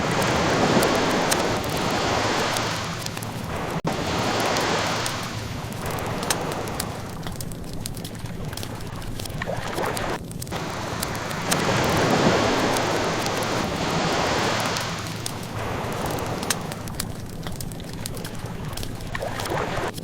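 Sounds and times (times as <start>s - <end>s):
ocean waves washing in: 0.0s - 20.0s
wood fire crackling: 0.0s - 20.0s.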